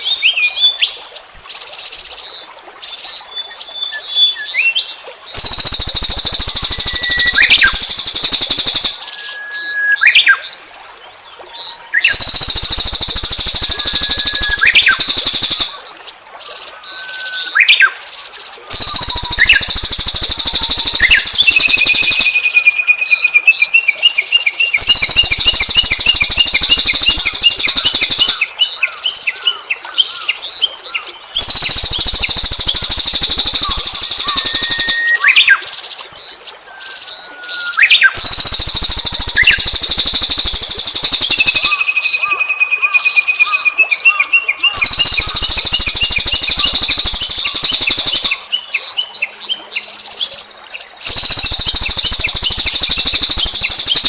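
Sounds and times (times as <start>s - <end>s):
thin whistled bird notes: 0.0s - 10.6s, 11.6s - 15.9s, 16.8s - 18.0s, 18.7s - 30.8s, 31.4s - 35.7s, 36.7s - 49.0s, 49.8s - 54.0s
songbirds buzzy trills: 0.0s - 54.0s.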